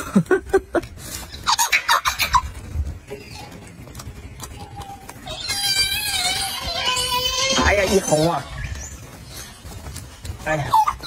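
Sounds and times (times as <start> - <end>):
monkey squeaky calls: 1.1 - 11.0.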